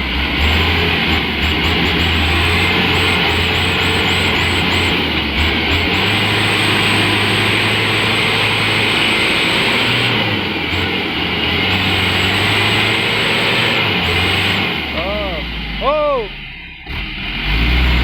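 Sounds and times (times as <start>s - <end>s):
truck diesel engine straining: 0.0s - 18.0s.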